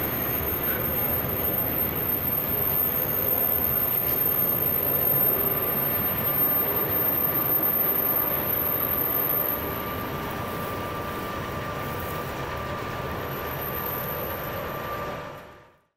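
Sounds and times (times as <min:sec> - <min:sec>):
thin high whine: 0:00.0 - 0:15.6.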